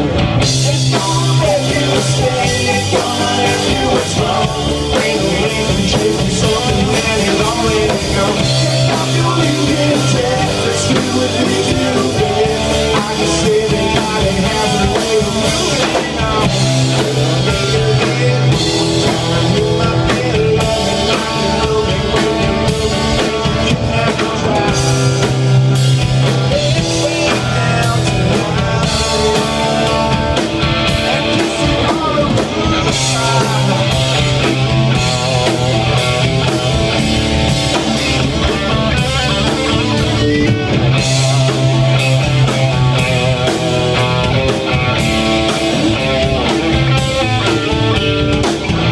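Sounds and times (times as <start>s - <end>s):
live rock band playing: 0.0s - 48.9s
man singing lead: 0.0s - 48.9s.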